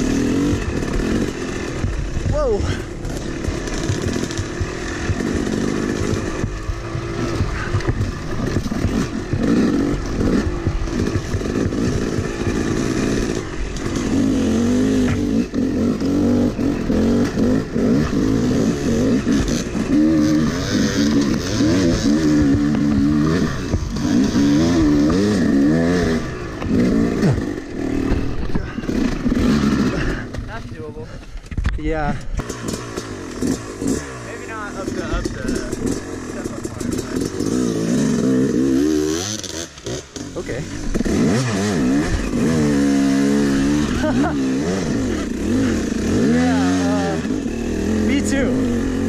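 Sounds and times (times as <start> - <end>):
dirt bike engine revving: 0.0 - 31.2, 32.0 - 49.0.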